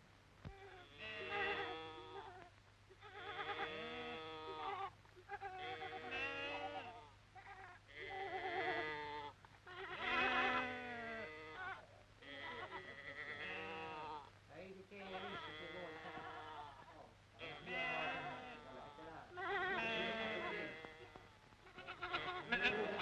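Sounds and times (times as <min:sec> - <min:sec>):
sheep bleating: 0:00.5 - 0:14.3, 0:15.0 - 0:23.0.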